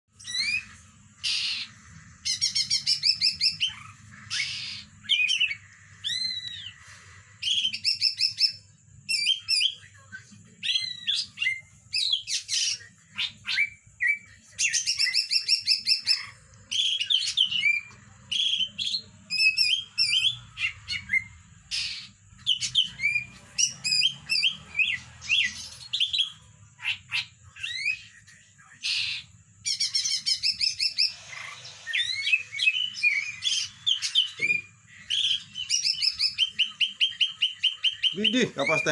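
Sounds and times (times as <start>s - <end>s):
songbird chirping and trilling: 0.1s - 38.9s.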